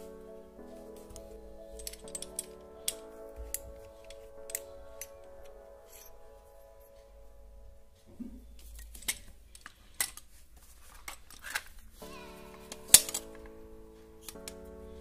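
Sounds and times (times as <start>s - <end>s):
background music: 0.0s - 9.6s, 12.0s - 15.0s.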